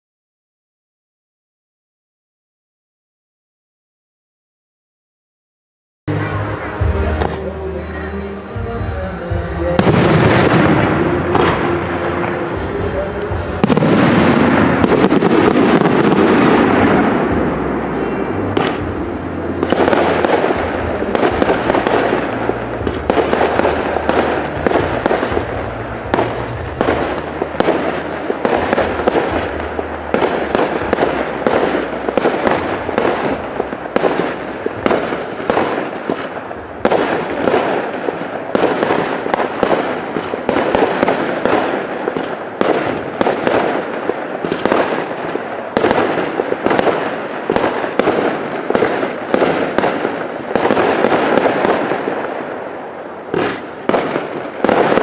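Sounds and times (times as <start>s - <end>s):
firework shells bursting: 9.8s - 55.0s.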